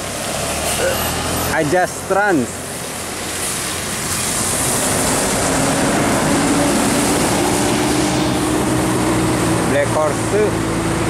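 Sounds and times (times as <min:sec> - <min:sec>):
bus engines running: 0:00.0 - 0:11.0
tyres hissing on wet road: 0:00.0 - 0:11.0.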